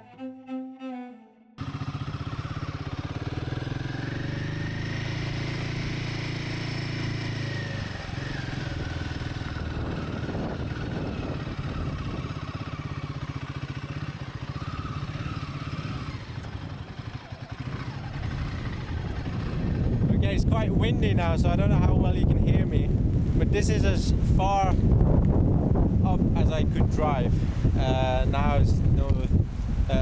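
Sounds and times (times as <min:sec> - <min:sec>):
motorcycle engine running: 0:01.6 - 0:30.0.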